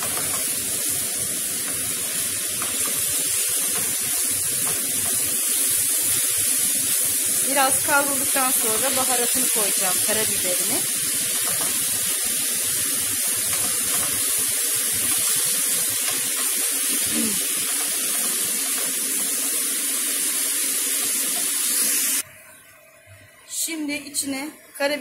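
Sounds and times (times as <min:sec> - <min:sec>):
meat and onions sizzling in a pan: 0:00.0 - 0:23.3.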